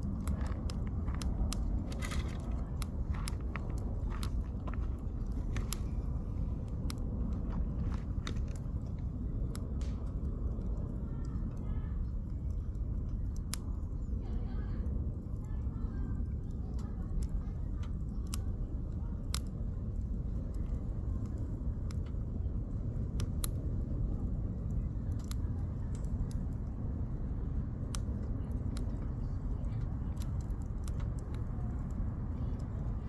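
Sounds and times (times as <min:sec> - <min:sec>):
campfire crackling and popping: 0:00.0 - 0:33.0
fire low rumble: 0:00.0 - 0:33.0.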